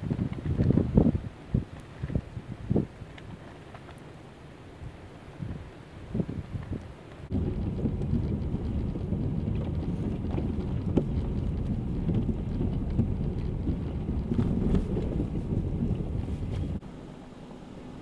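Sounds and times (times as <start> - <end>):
strong wind buffeting microphone: 0.0 - 3.5, 4.7 - 16.8.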